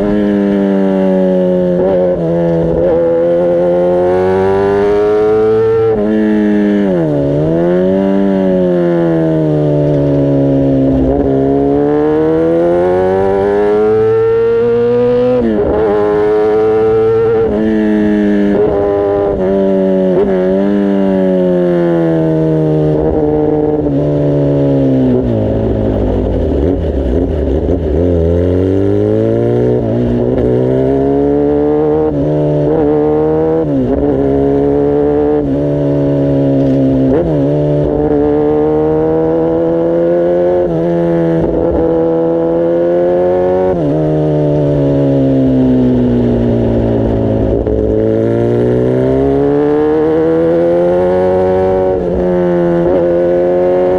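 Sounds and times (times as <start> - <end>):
motorcycle engine shifting gears: 0.0 - 53.9.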